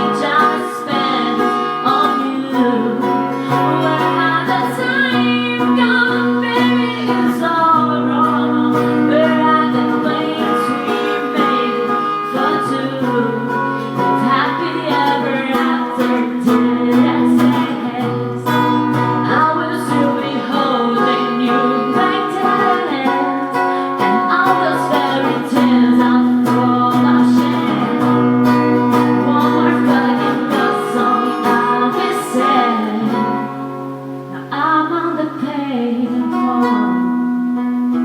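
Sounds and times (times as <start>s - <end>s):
acoustic guitar strumming: 0.0s - 38.0s
person singing: 0.0s - 38.0s.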